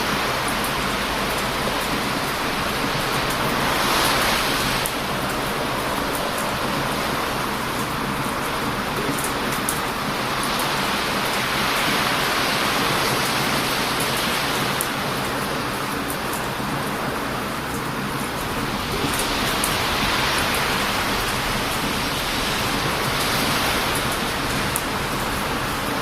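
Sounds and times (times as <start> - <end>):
campfire crackling: 0.0 - 26.0
ocean surf breaking: 0.0 - 26.0.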